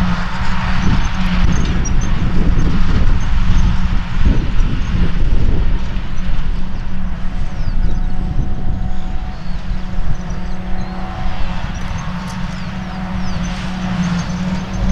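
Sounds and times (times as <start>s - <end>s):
forage harvester engine droning: 0.0s - 14.9s
tractor engine: 0.0s - 14.9s.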